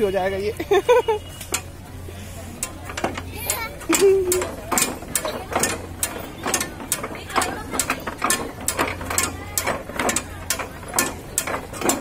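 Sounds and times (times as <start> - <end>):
plastic rocking ride creaking: 1.2 - 1.9, 2.5 - 12.0.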